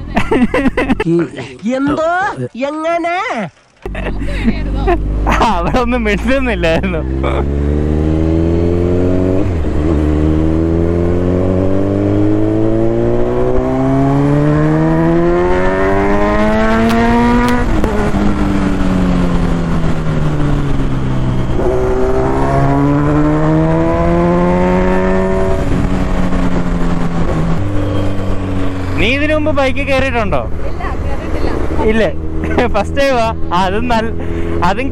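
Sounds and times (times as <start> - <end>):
motorcycle engine revving: 3.8 - 34.9.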